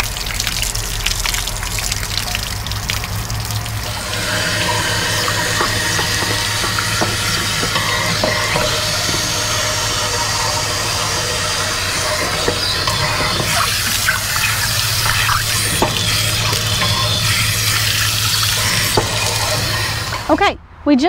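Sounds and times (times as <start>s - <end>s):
water spraying and splashing: 0.0s - 20.5s.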